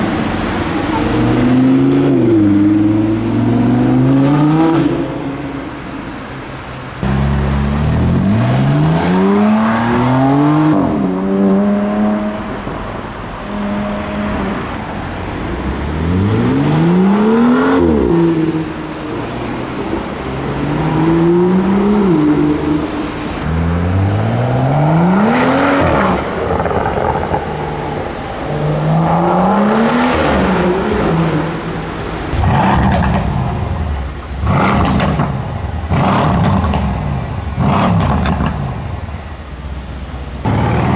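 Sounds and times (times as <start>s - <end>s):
cars accelerating hard: 0.0s - 5.9s, 7.0s - 12.8s, 13.5s - 39.1s, 40.4s - 40.9s.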